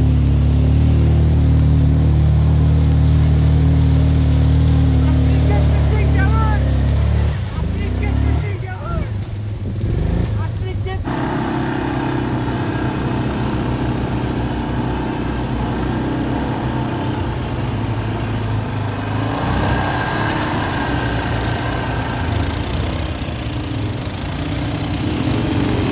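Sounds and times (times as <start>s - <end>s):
off-road vehicle engine running: 0.0s - 25.9s.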